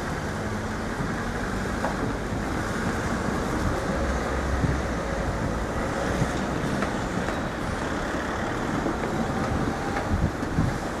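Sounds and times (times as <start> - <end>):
cars driving by: 0.0 - 11.0.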